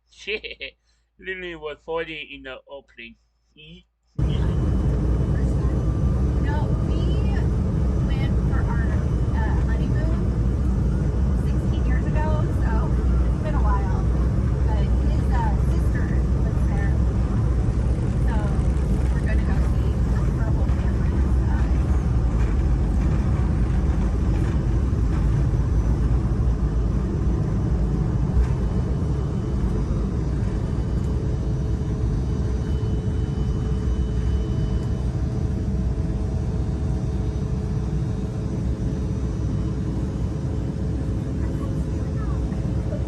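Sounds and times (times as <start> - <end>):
jet airliner cabin rumble: 0.1 - 43.0.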